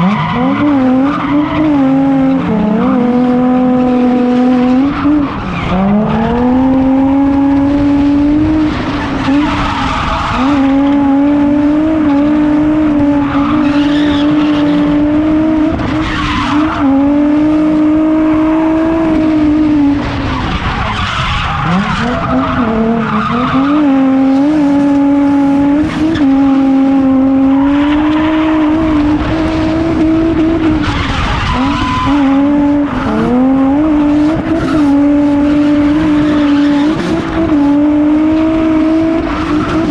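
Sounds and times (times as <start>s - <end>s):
car engine revving high: 0.0s - 39.9s.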